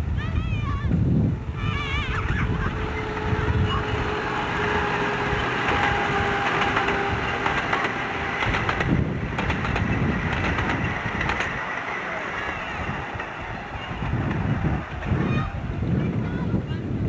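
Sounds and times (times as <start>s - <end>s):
carriages rolling along track: 0.0s - 17.0s
small locomotive engine running: 0.8s - 17.0s.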